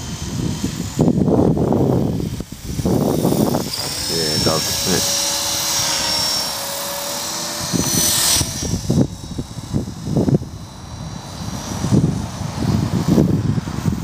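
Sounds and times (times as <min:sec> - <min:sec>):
electric motor whine: 0:00.0 - 0:14.0
rotor rushing whoosh: 0:00.0 - 0:14.0.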